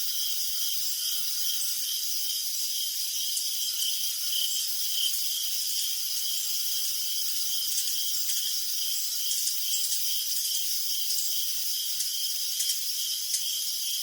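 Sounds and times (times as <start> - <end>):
crickets chirping: 0.0 - 14.0
insects trilling: 0.0 - 14.0.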